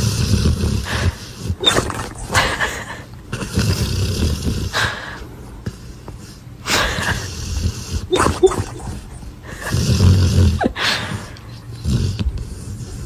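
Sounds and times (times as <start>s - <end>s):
large dog snoring: 0.0s - 13.0s.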